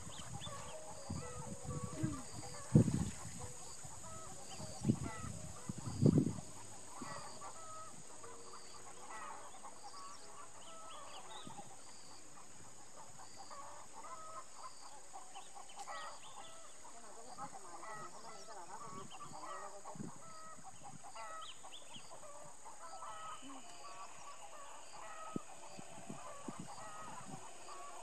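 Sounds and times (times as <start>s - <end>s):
poultry calling: 0.0s - 11.8s, 15.8s - 28.0s.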